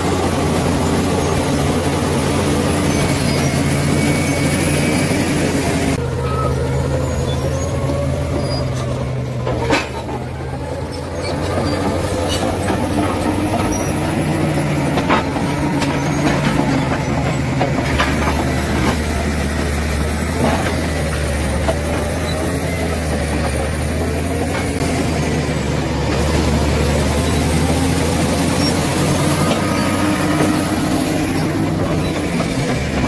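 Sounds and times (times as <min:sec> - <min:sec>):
bulldozer diesel engine under load: 0:00.0 - 0:33.0.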